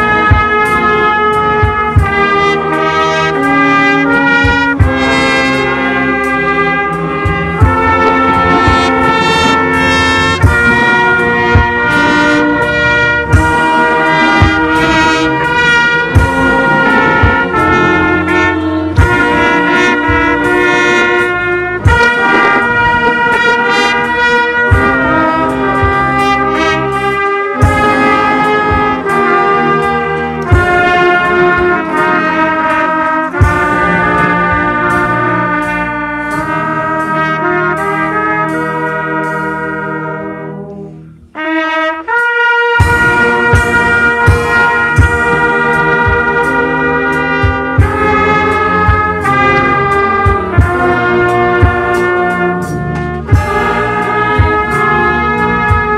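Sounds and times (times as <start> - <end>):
brass instruments: 0.0 - 55.9
trumpet playing a tune: 0.0 - 55.9.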